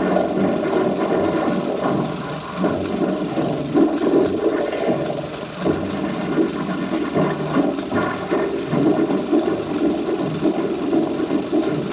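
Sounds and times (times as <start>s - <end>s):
film projector running: 0.0s - 11.9s.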